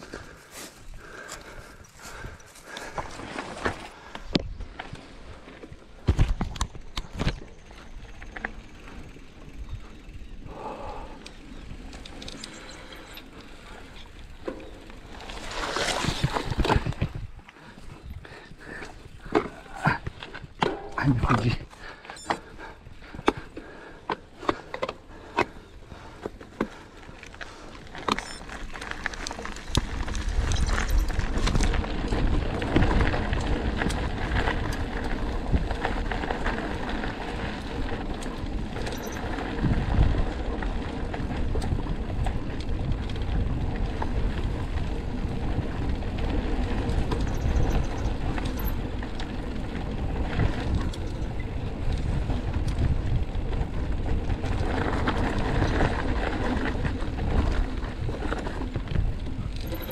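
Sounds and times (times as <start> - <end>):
mountain bike rumbling on trail: 0.0 - 59.9.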